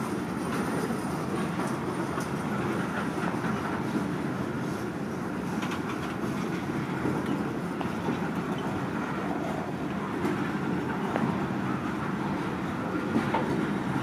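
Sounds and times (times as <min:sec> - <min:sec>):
steel wheels rumbling on track: 0:00.0 - 0:14.0.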